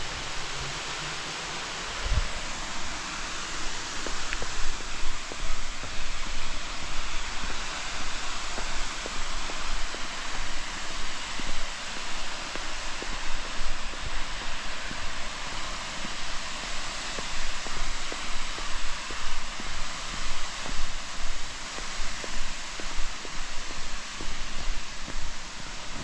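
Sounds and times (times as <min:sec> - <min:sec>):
falling water rushing: 0:00.0 - 0:26.0
footsteps on trail: 0:02.2 - 0:26.0.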